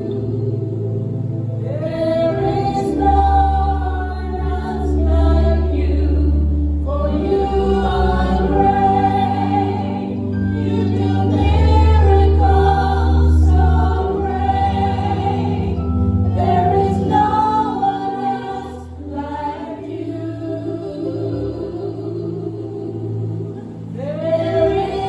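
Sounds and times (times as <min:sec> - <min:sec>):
gospel choir singing: 0:00.0 - 0:25.0
low accompaniment: 0:00.0 - 0:25.0.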